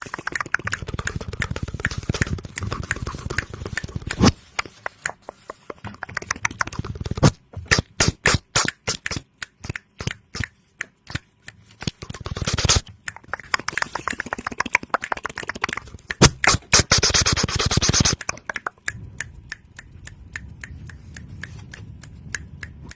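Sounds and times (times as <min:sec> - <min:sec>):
small clicks and pops: 0:00.0 - 0:22.9.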